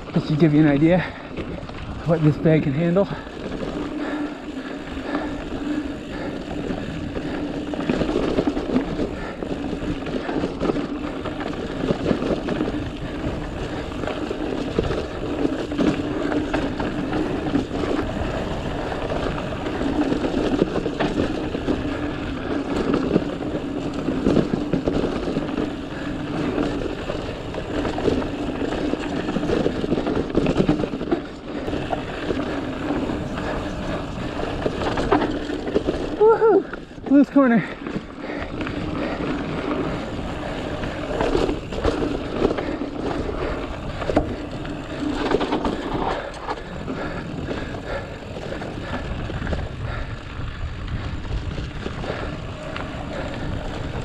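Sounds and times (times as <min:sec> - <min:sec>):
bike knocking and rattling: 0:00.0 - 0:54.0
bike tyre rumble on dirt: 0:00.0 - 0:54.0.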